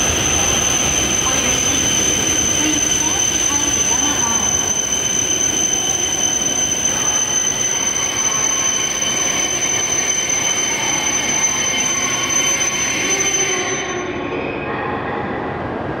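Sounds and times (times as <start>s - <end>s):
high-pitched whine: 0.0s - 14.5s
train rushing along rails: 0.0s - 16.0s.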